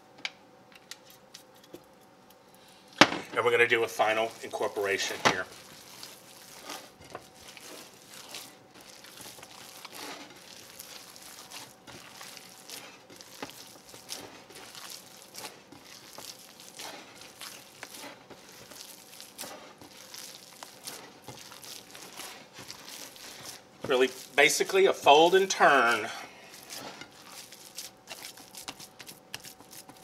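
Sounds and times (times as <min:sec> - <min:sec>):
hand squishing meat mixture: 0:03.4 - 0:30.0.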